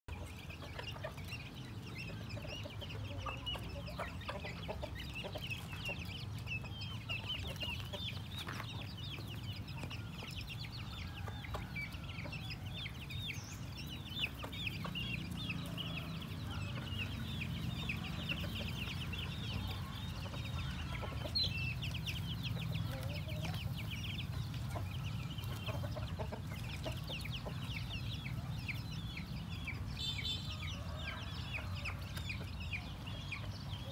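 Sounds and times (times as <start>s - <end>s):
chicks peeping: 0.1s - 33.9s
hen clucking: 0.1s - 33.9s.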